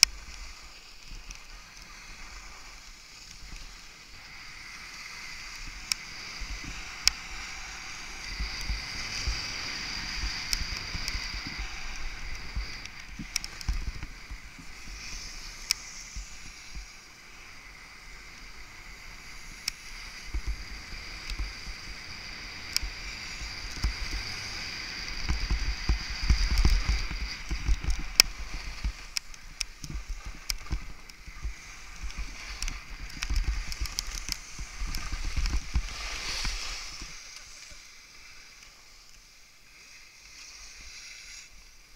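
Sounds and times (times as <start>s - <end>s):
skis scraping over snow: 0.0s - 41.9s
wind on microphone: 1.3s - 37.9s.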